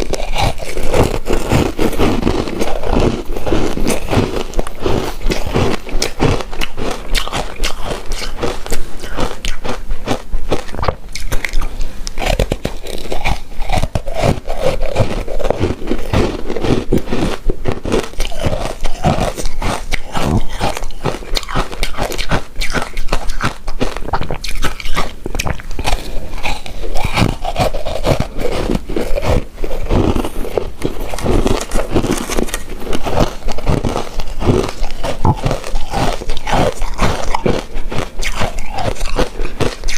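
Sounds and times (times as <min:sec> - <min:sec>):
sharp mouth clicks: 0:00.0 - 0:39.9
wet chewing and smacking: 0:00.0 - 0:39.9.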